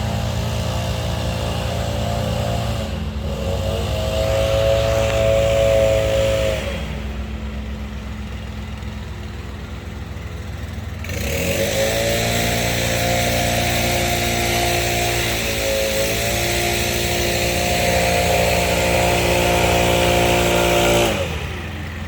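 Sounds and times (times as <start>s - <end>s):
ride-on mower cutting whine: 0.0s - 22.0s.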